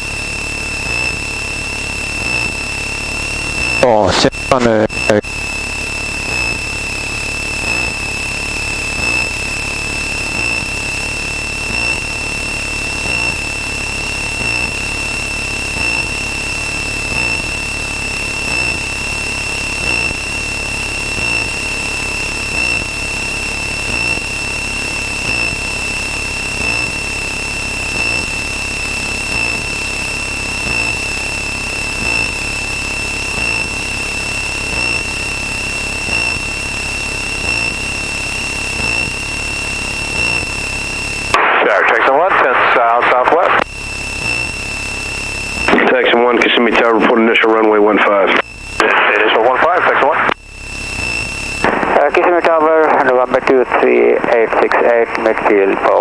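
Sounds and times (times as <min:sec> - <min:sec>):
aircraft engine drone: 0:00.0 - 0:56.0
high-pitched electronic tone: 0:00.0 - 0:56.0.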